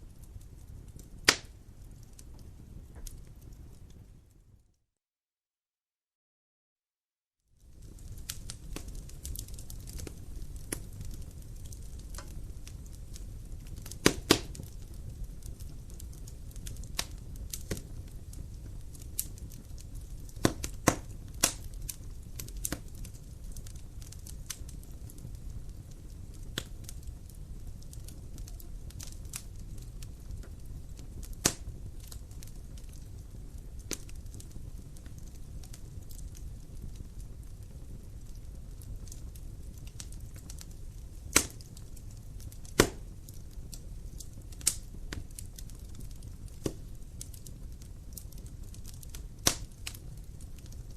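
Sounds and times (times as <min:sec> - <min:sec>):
fire burning in fireplace: 0:00.0 - 0:04.8, 0:07.4 - 0:50.9
fire crackles and pops: 0:00.0 - 0:04.8, 0:07.4 - 0:50.9.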